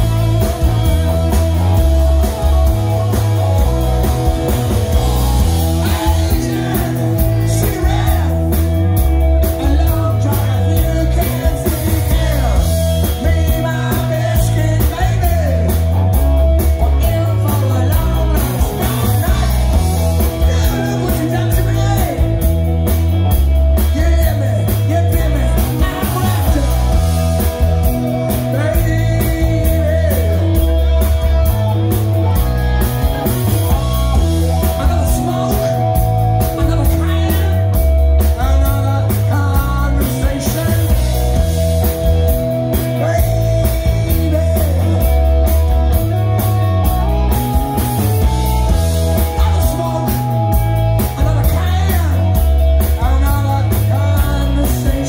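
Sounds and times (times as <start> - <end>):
live rock band playing: 0.0 - 55.0
man singing lead vocals: 0.0 - 55.0.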